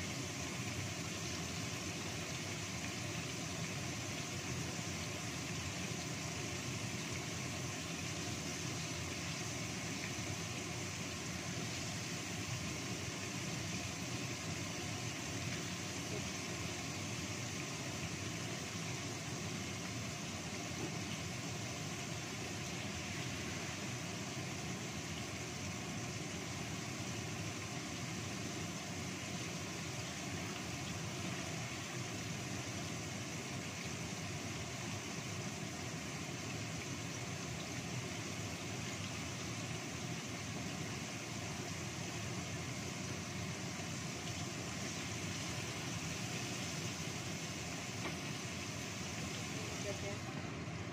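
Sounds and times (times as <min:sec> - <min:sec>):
fish frying in oil: 0:00.0 - 0:50.9
range hood fan humming: 0:00.0 - 0:50.9.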